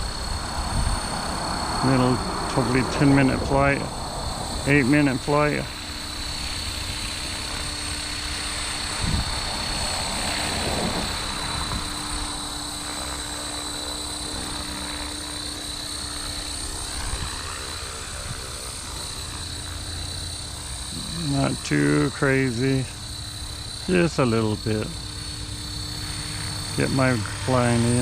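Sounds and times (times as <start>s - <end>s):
helicopter rotor and motor whir: 0.0s - 28.0s.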